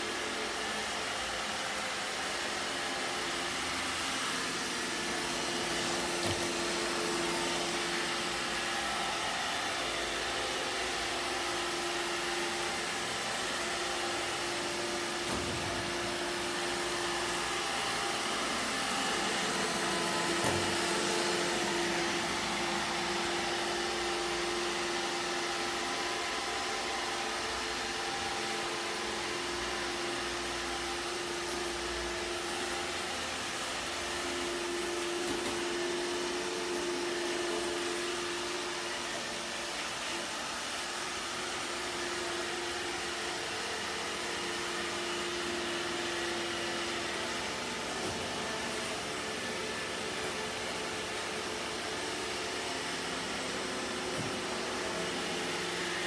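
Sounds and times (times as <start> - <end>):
robot vacuum whirring: 0.0 - 56.0.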